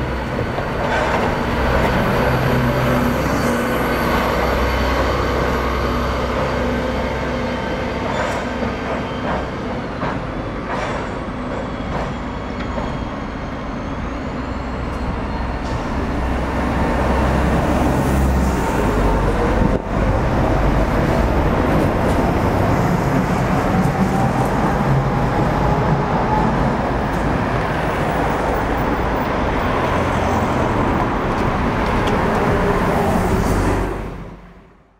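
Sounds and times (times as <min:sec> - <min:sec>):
buses passing: 0:00.0 - 0:34.9
tram rolling over tracks: 0:00.0 - 0:34.9.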